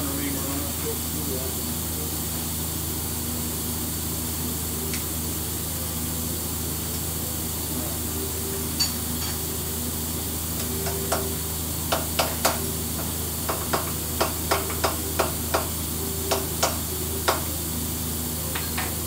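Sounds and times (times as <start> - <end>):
milling machine humming: 0.0 - 19.0.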